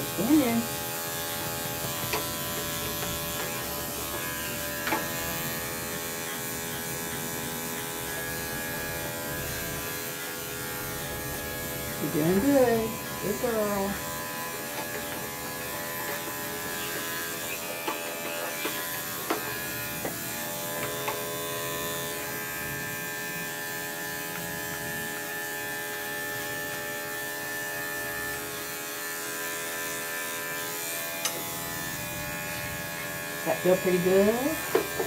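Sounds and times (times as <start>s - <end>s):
electric clippers buzzing: 0.0s - 35.0s.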